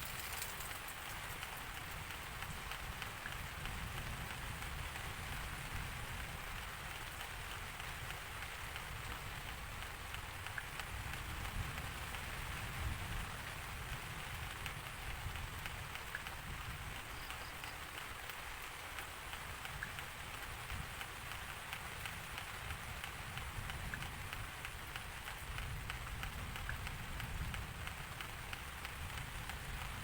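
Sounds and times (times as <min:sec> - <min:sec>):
rain hissing on a surface: 0:00.0 - 0:30.0
raindrop ticks: 0:00.0 - 0:30.0.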